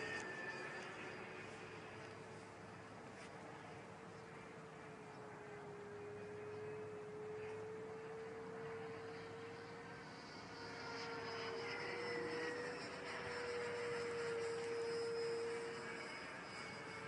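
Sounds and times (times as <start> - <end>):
model jet motor whining overhead: 0.0 - 17.0.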